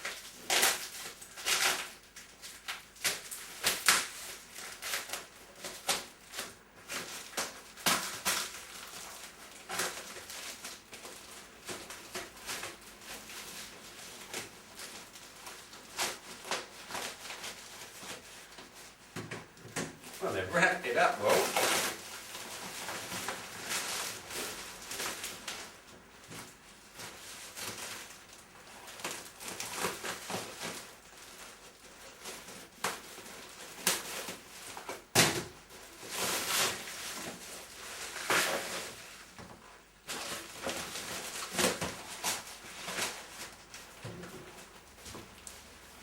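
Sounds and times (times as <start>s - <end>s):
packaging wrap crinkling: 0.0s - 19.0s, 20.1s - 46.0s.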